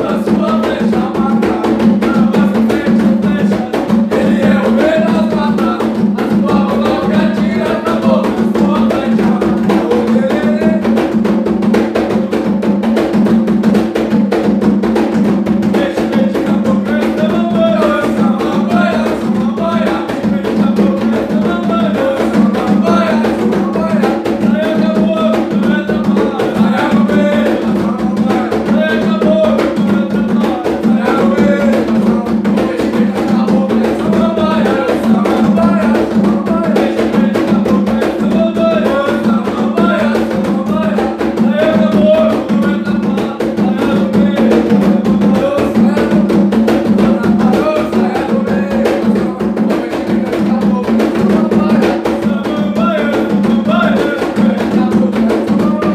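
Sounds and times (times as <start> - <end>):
hand drums playing rhythm: 0.0 - 55.9
man singing: 0.0 - 55.9.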